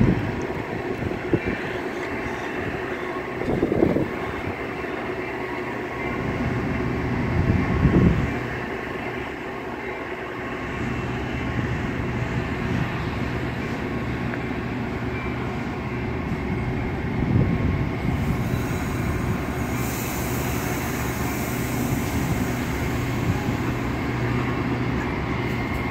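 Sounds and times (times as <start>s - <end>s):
train wheels rumbling on track: 0.0s - 25.9s.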